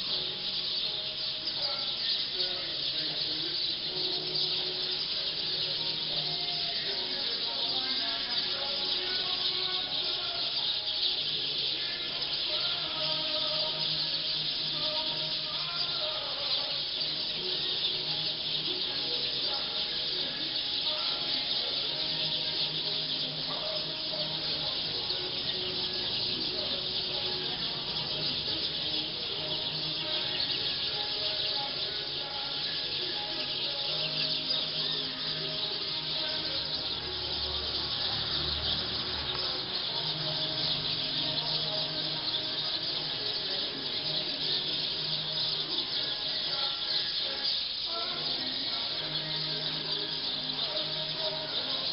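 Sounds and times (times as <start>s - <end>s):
flock of birds chirping: 0.0s - 51.9s.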